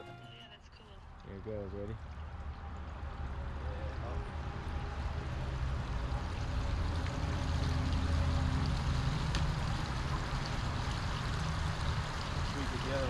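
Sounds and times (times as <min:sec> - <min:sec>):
waterfall splashing: 0:02.3 - 0:13.0.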